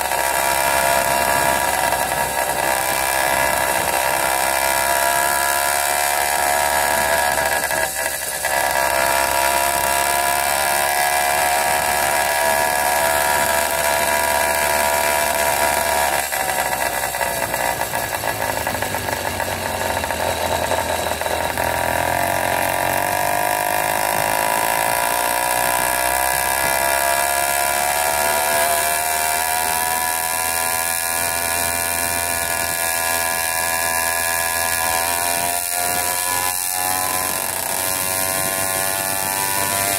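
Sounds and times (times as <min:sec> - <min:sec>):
two-stroke bicycle engine running: 0:00.0 - 0:39.9.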